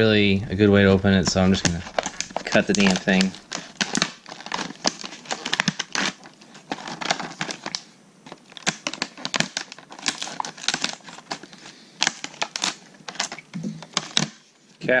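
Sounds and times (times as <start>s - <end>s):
plastic crinkling: 1.2s - 14.8s
scissors cutting plastic: 1.6s - 14.4s.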